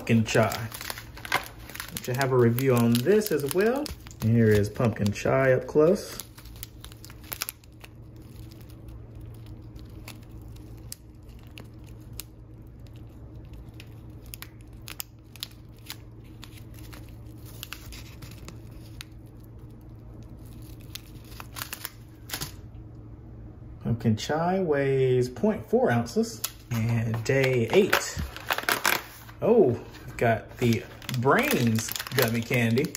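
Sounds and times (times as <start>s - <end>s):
plastic sachet crinkling: 0.0s - 22.6s, 26.4s - 32.9s
steady low hum: 0.0s - 32.9s.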